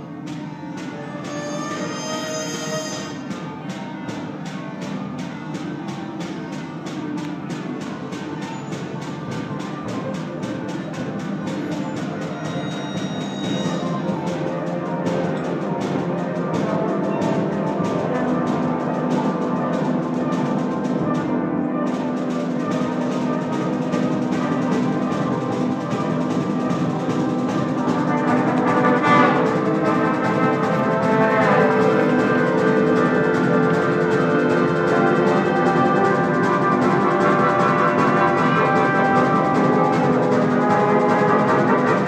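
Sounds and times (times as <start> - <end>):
percussion pulse: 0.0 - 42.0
wind band playing: 0.0 - 42.0.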